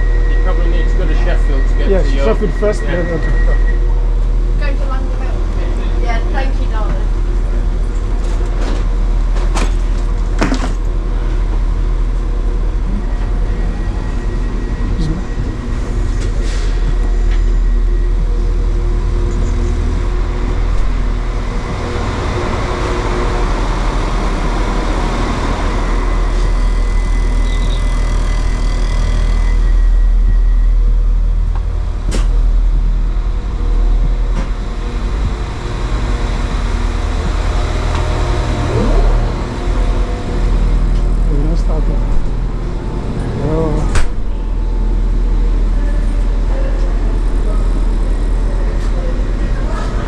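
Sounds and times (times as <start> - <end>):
diesel train engine idling: 0.0 - 50.0.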